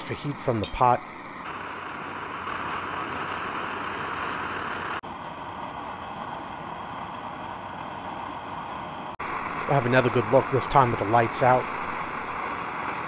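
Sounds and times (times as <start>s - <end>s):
stove burner hissing: 0.0s - 13.0s.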